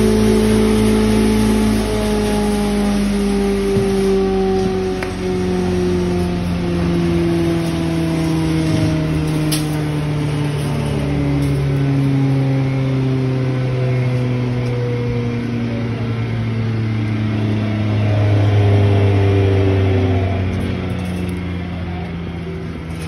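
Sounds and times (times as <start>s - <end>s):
glass grinder machine humming: 0.0s - 23.0s.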